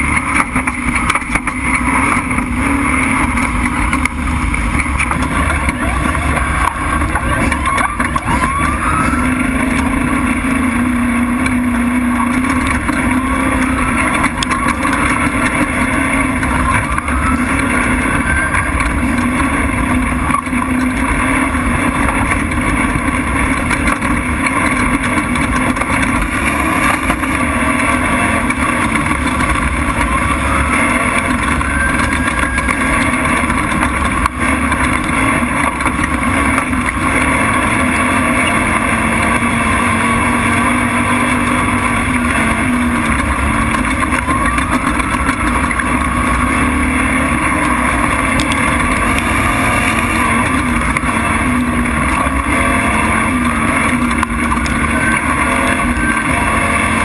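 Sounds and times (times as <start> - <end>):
truck engine accelerating: 0.0 - 57.0.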